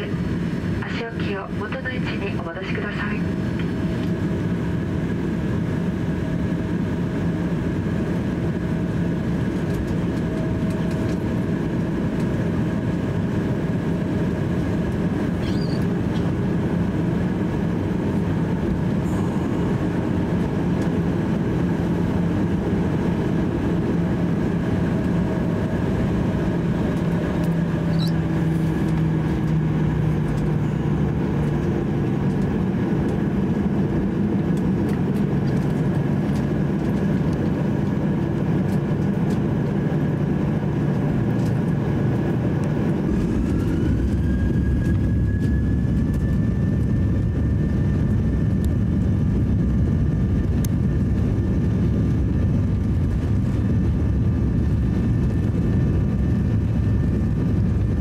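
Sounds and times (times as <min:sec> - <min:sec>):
aircraft cabin hum: 0:00.0 - 0:58.0
jet engines idling rumble: 0:00.0 - 0:58.0.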